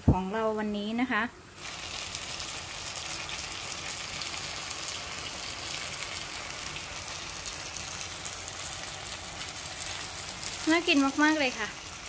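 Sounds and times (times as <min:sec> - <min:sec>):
curry sizzling in a frying pan: 0:00.7 - 0:12.0.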